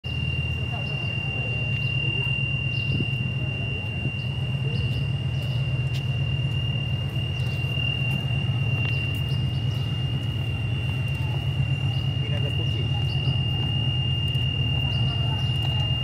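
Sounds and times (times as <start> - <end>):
diesel locomotive rumble: 0.0 - 16.0
high whine: 0.0 - 16.0.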